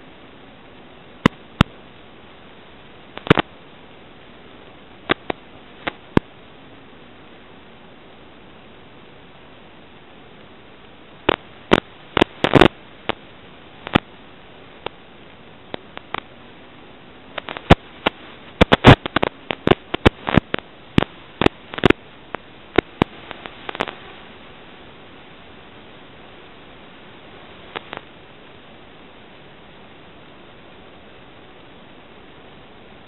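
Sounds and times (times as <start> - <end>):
sharp static clicks and pops: 0.0 - 33.0
steady radio static hiss: 0.0 - 33.0.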